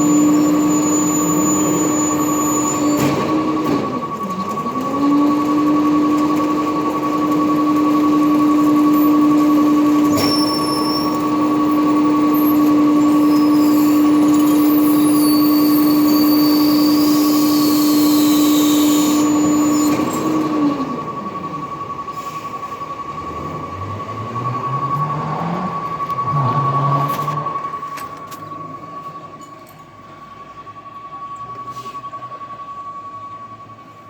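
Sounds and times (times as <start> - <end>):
high metallic squeals: 0.0 - 33.0
truck engine and hydraulic whine: 0.0 - 34.0.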